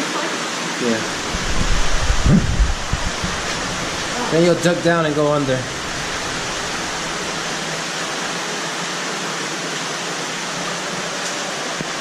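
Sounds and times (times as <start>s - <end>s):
underground stream rushing: 0.0s - 12.0s.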